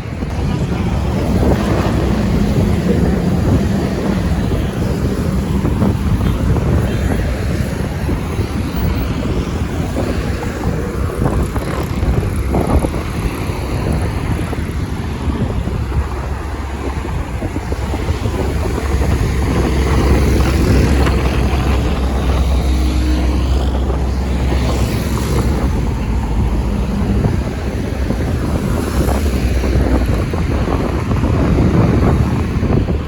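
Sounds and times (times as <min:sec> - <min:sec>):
road traffic rumble: 0:00.0 - 0:33.0
wind buffeting microphone: 0:00.0 - 0:33.0
vehicle passing: 0:00.2 - 0:33.0.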